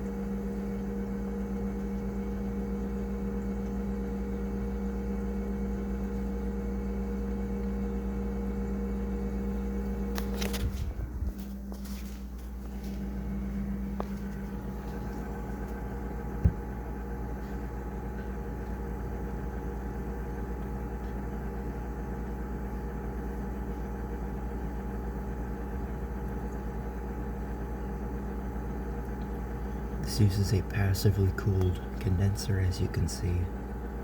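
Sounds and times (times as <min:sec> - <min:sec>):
refrigerator compressor humming: 0:00.0 - 0:34.0.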